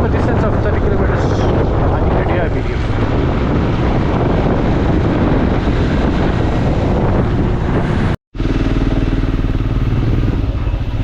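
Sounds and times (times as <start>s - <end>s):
wind noise on microphone: 0.0s - 11.0s
motorcycle engine running: 1.6s - 11.0s.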